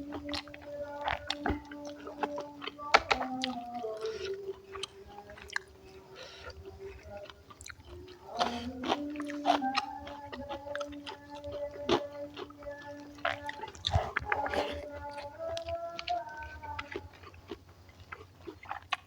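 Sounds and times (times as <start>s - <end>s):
person chewing and smacking food: 0.0s - 19.0s.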